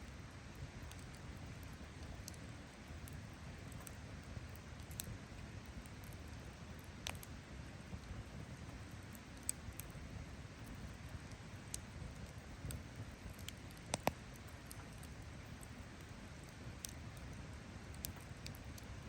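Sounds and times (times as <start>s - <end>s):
campfire crackling and popping: 0.0s - 19.0s
low steady fire rumble: 0.0s - 19.0s.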